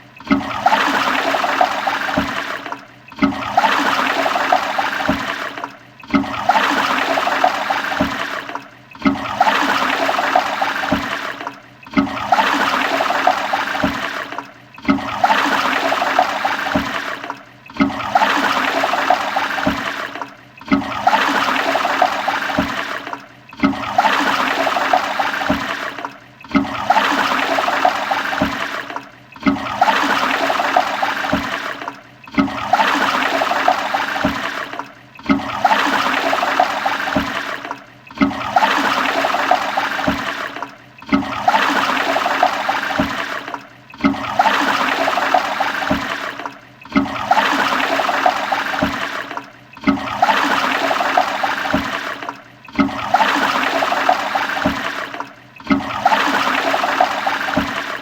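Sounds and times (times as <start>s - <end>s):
toilet flushing: 0.0s - 58.0s.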